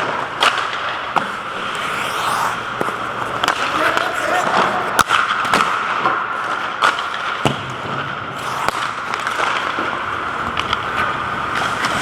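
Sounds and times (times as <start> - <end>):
hockey sticks and pucks cracking: 0.0 - 12.0.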